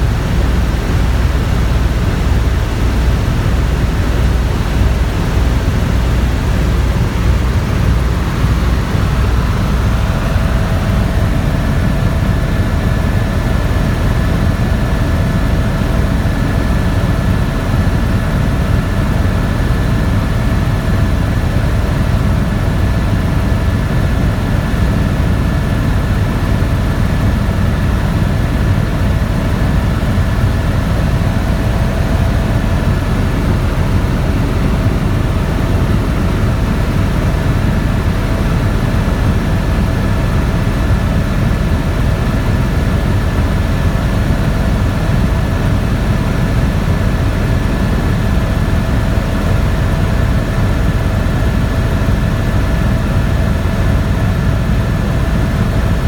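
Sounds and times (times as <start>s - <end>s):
helicopter engine and rotor noise: 0.0s - 56.0s
helicopter whine: 0.0s - 56.0s.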